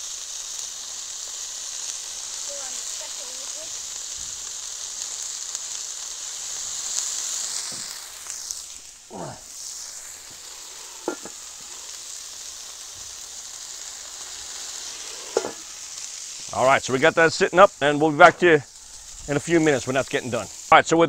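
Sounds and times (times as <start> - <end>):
food sizzling on a griddle: 0.0 - 21.0.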